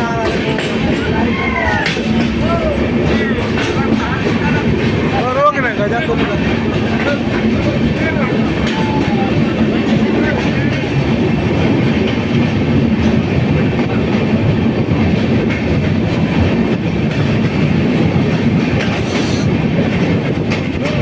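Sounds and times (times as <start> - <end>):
train wheels on track: 0.0 - 21.0.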